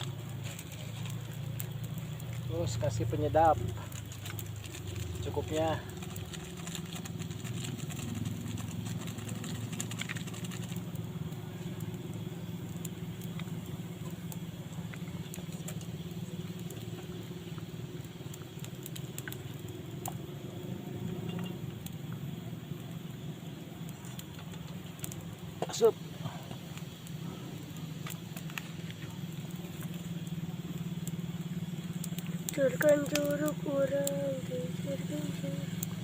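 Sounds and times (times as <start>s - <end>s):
food cooking in a pan: 0.0s - 36.0s.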